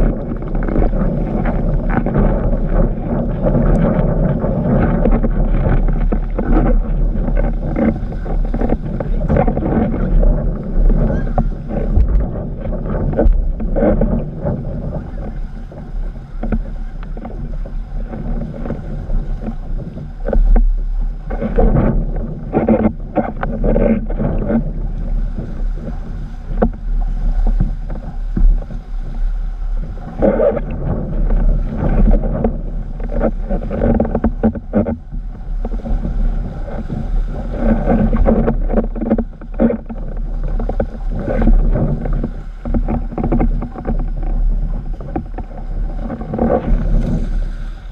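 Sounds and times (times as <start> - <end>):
water rushing under board: 0.0 - 47.9
wind buffeting microphone: 0.0 - 47.9.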